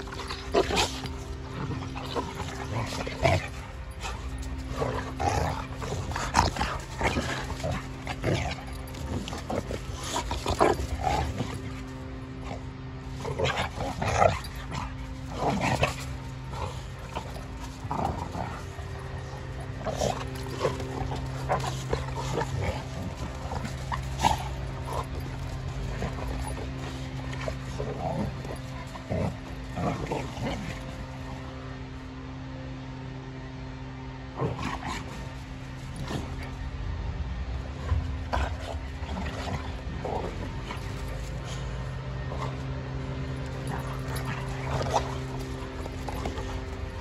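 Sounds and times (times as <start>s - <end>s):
dogs growling and snarling: 0.0s - 47.0s.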